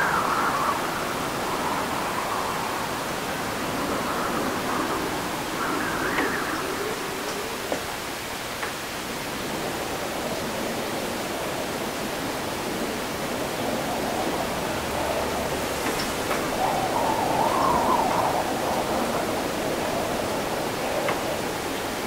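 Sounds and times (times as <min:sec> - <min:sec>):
wind rushing: 0:00.0 - 0:22.0.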